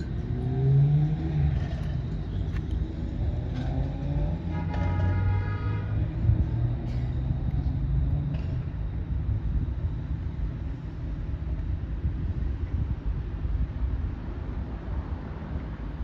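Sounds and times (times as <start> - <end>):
light rail train rumbling: 0.0 - 16.0.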